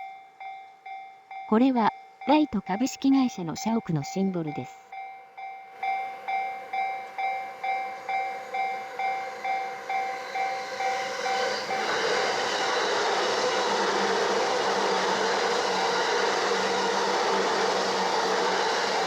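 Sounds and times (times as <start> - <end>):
level-crossing warning bell: 0.0 - 19.0
train running noise: 1.6 - 19.0.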